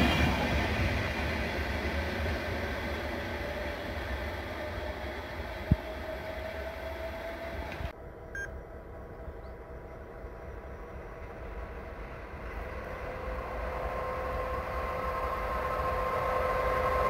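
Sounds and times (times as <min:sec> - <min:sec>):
passenger train pulling away: 0:00.0 - 0:17.0.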